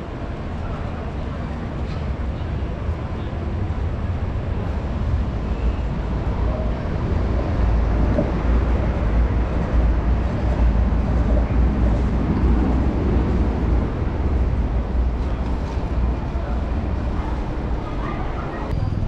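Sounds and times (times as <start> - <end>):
low city rumble: 0.0 - 19.0.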